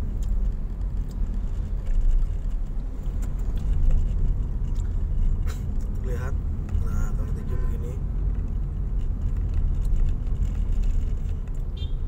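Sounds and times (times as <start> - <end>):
faint clicks and rattles: 0.0 - 11.7
car engine and road noise: 0.0 - 12.0.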